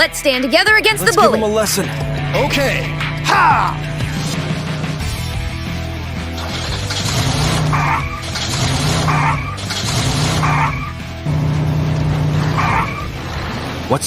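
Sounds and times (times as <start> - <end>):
background music: 0.0 - 14.0
car engine running: 0.0 - 14.0
tyres skidding: 0.5 - 14.0.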